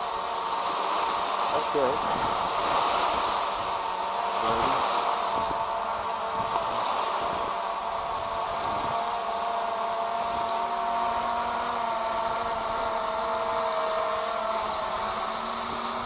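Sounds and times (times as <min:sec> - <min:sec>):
drone propellers whining: 0:00.0 - 0:16.0
wind buffeting microphone: 0:00.0 - 0:16.0.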